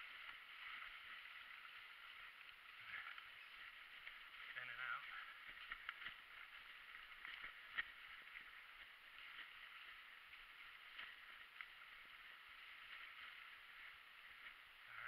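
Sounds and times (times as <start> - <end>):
bike rolling over rocky trail: 0.0 - 15.0.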